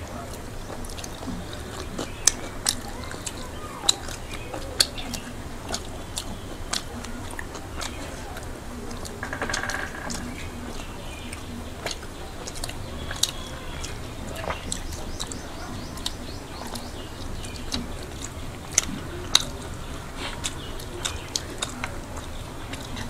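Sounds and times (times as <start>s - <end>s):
people chewing food: 0.0s - 23.0s
sharp mouth clicks: 0.1s - 23.0s.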